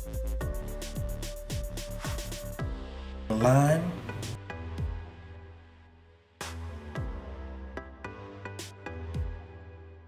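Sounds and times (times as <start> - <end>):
electronic music with steady beat: 0.0 - 9.9.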